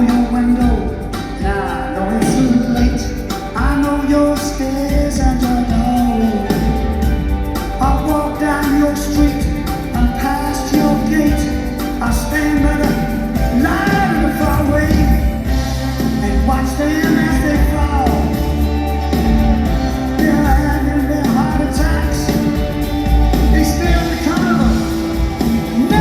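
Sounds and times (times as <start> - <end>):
live rock band playing: 0.0 - 26.0
person singing: 0.0 - 26.0.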